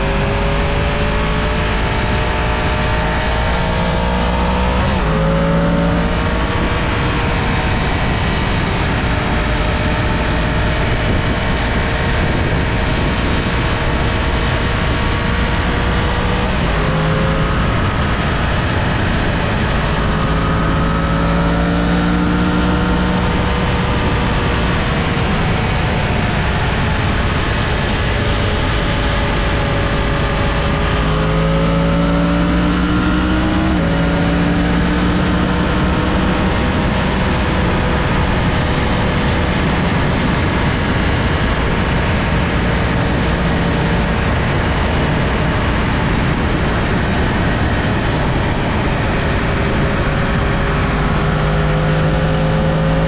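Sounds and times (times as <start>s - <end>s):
heavy wind rush: 0.0s - 53.0s
motorcycle engine running: 0.0s - 53.0s.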